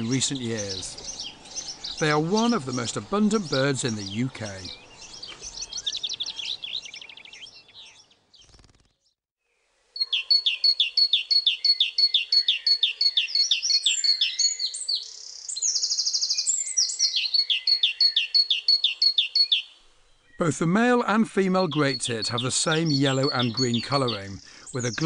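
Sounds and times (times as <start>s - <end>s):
great tit singing: 0.0s - 8.6s, 10.0s - 25.0s
bird trill: 0.0s - 9.1s, 10.0s - 20.4s, 21.6s - 25.0s.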